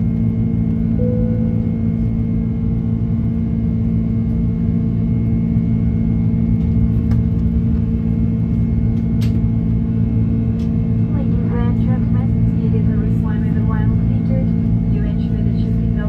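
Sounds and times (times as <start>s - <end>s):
jet engine cabin drone: 0.0s - 16.0s.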